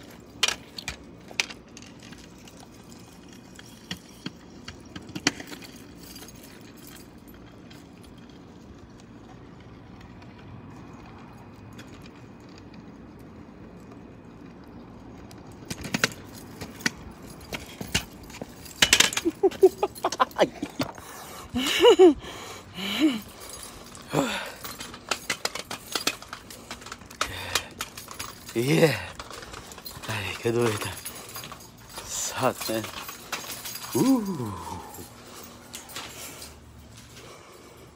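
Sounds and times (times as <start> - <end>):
keys jangling: 0.0 - 8.8, 15.3 - 37.9.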